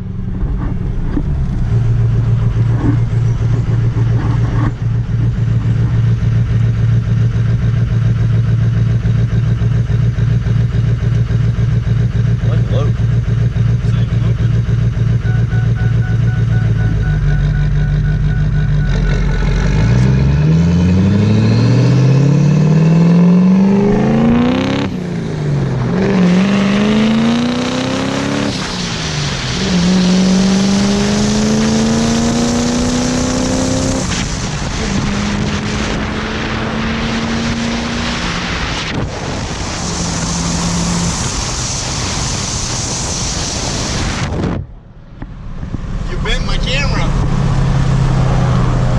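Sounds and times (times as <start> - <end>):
diesel engine accelerating: 0.0 - 48.9.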